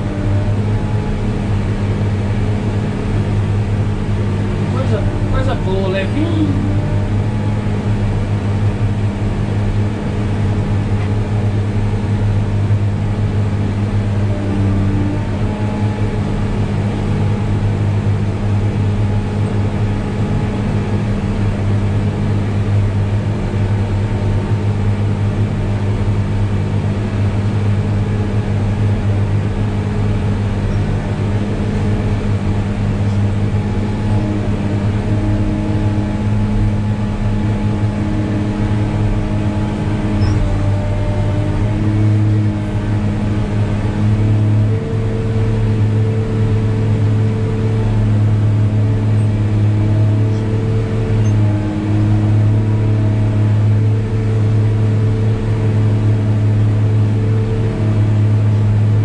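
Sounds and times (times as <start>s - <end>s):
grader diesel engine droning: 0.0s - 59.0s.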